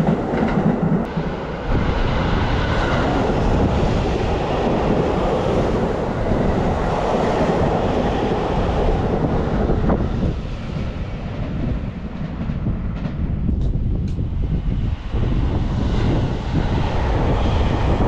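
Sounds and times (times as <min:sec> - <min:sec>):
train passing through station: 0:00.0 - 0:18.0.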